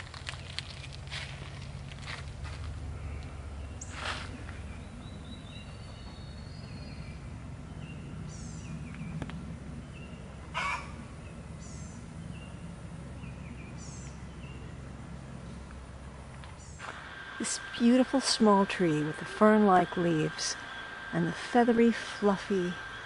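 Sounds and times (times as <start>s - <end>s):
low background rumble: 0.0s - 23.0s
birds chirping: 2.9s - 15.8s, 16.4s - 23.0s.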